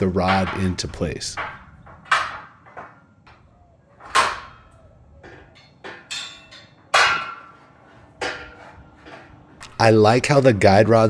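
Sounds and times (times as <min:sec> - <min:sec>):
metal parts clanking: 0:00.0 - 0:10.5.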